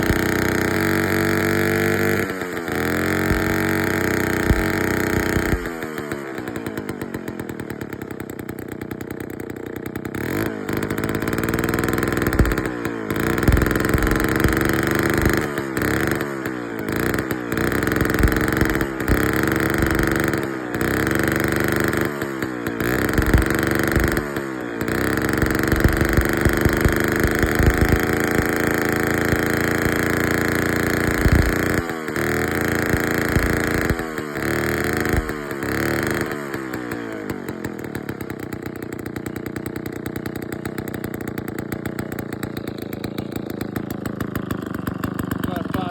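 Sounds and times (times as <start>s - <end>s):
chainsaw idling and revving: 0.0s - 45.9s.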